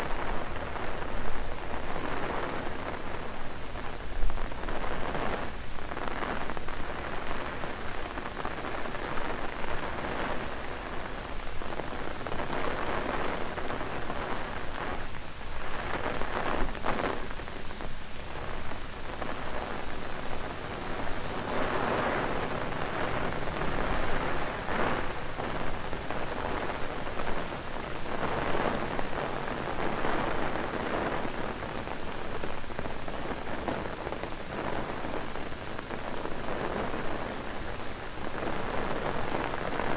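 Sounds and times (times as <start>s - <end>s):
cicada drone: 0.0s - 39.9s
rain pattering on umbrella: 0.0s - 39.9s.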